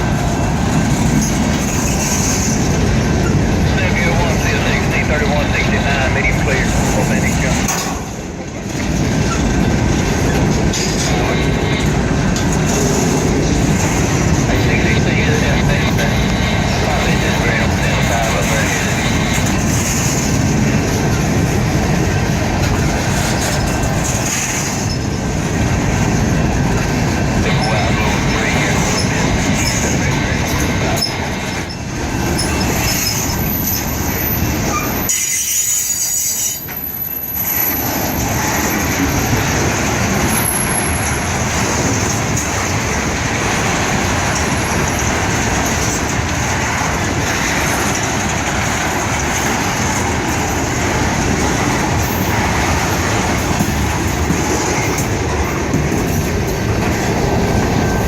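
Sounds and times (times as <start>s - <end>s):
train wheels rumbling and rattling: 0.0s - 58.0s.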